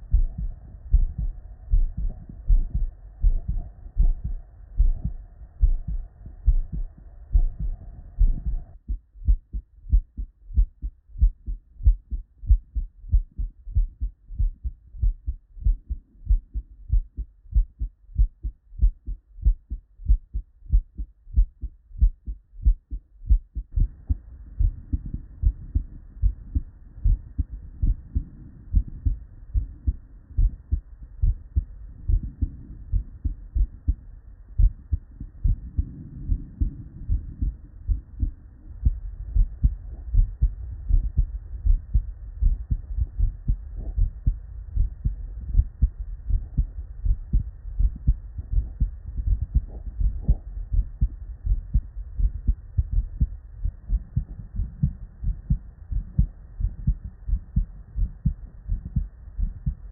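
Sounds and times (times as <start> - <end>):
heartbeat through stethoscope: 0.0 - 59.9.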